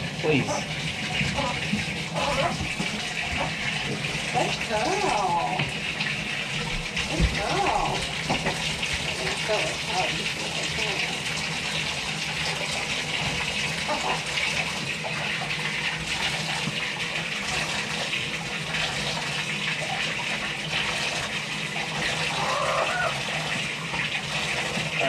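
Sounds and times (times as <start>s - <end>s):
tap water pouring into tub: 0.0s - 25.0s.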